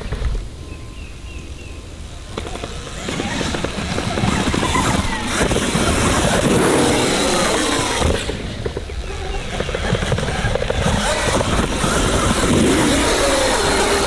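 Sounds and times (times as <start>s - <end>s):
electric dirt bike motor whine: 2.1s - 14.0s.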